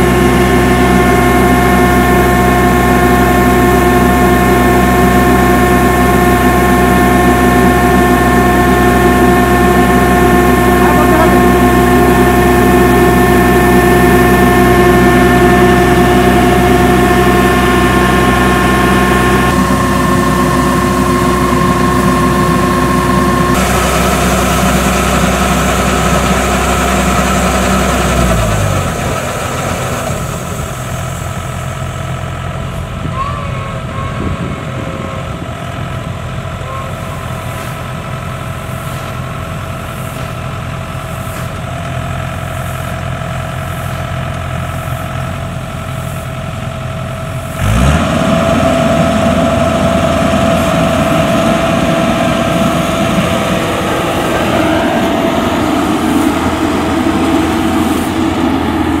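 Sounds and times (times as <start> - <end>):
diesel engine running and revving: 0.0 - 59.0
steady engine whine: 0.0 - 59.0.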